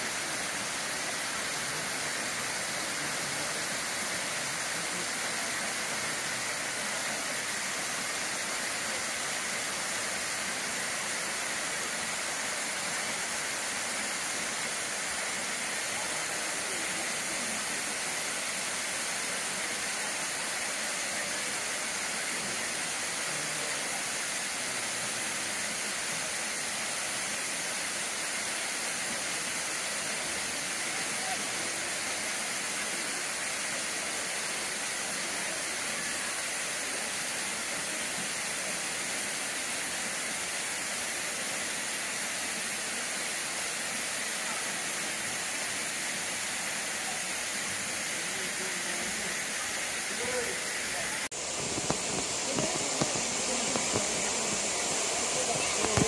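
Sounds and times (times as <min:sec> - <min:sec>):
waterfall pouring into a pool: 0:00.0 - 0:56.0.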